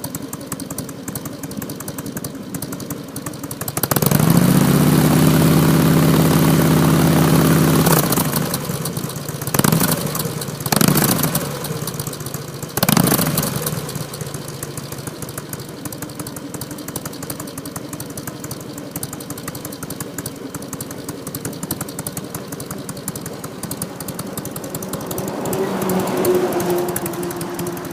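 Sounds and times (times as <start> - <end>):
motorcycle engine revving and idling: 0.0 - 27.9.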